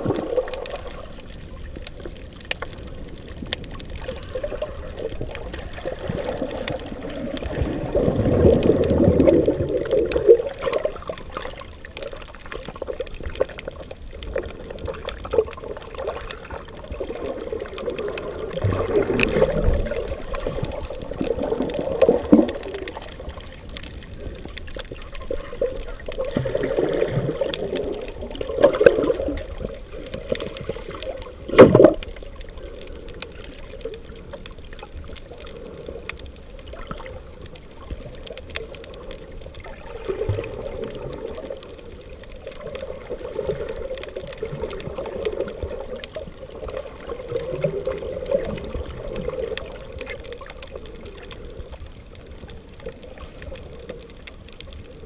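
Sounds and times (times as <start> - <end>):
muffled underwater water swishing: 0.0 - 55.0.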